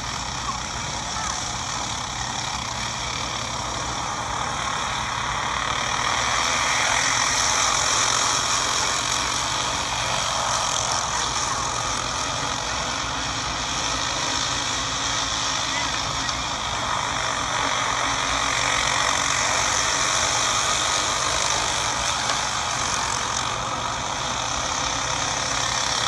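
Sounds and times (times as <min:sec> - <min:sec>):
racing kart engines: 0:00.0 - 0:26.0.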